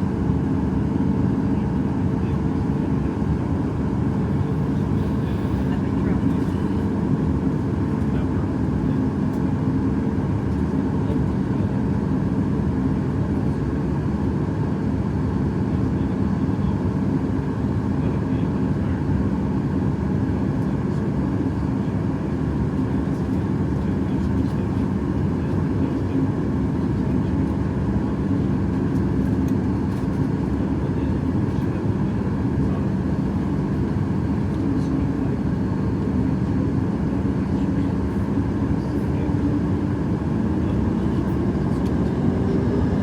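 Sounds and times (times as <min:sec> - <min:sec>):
airliner cabin engine roar: 0:00.0 - 0:43.0.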